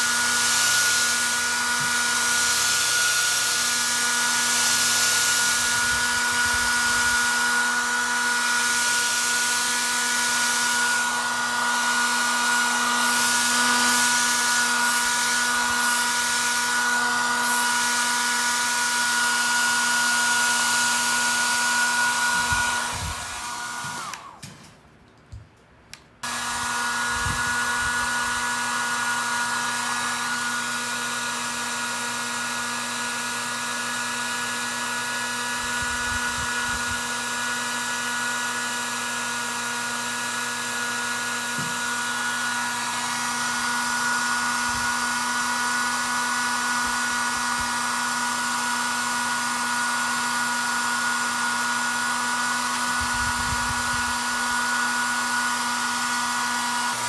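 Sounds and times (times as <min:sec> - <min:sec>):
hot-air blower whirring: 0:00.0 - 0:24.8, 0:26.2 - 0:57.0.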